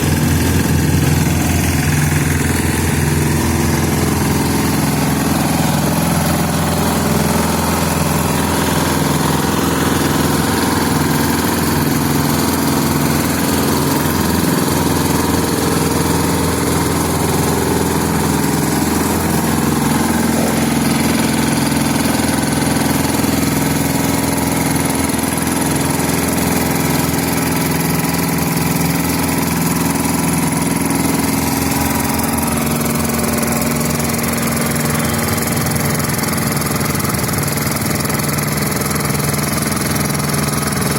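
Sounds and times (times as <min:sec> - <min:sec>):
road roller engine running: 0:00.0 - 0:40.9.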